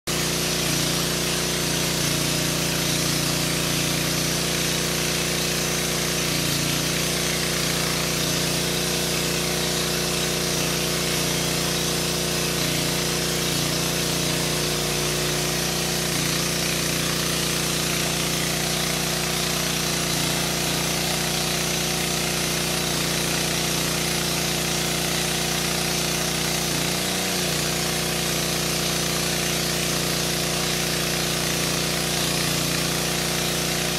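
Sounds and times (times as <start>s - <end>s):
diesel generator running: 0.1s - 33.9s.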